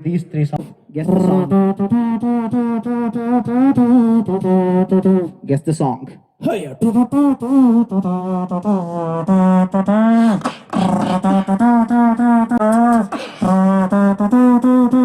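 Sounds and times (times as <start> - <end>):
beatboxing drum sounds: 0.0 - 5.5, 6.4 - 15.0
person humming a melody: 1.1 - 5.3, 6.8 - 15.0.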